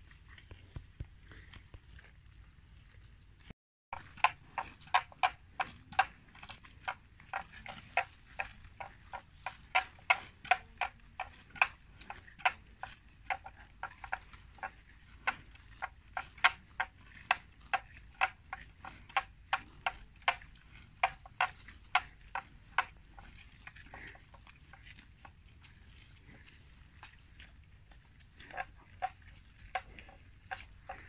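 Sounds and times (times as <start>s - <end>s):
buffalo chewing plants: 0.0s - 31.0s.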